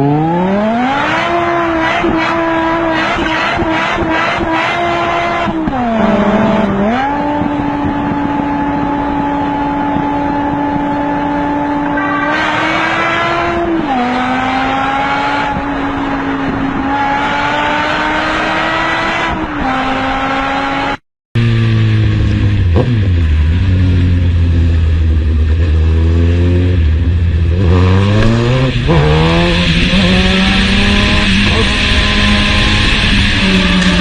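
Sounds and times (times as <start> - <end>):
vehicle engine at high revs: 0.0 - 34.0.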